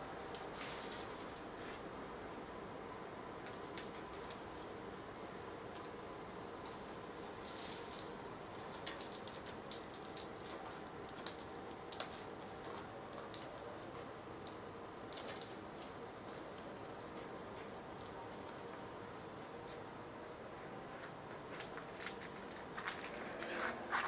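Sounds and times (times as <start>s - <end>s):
low steady hum: 0.0s - 24.0s
steady background hiss: 0.0s - 24.0s.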